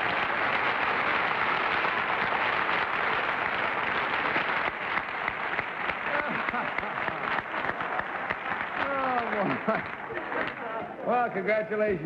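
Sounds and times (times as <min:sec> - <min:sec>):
audience applause: 0:00.0 - 0:12.0.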